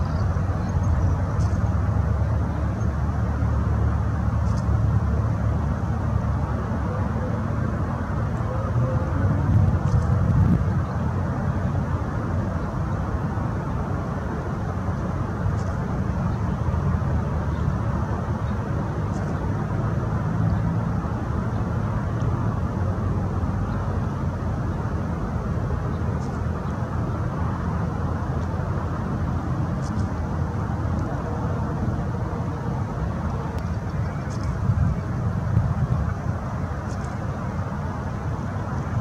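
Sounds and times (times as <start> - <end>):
low rumbling background noise: 0.0 - 39.0.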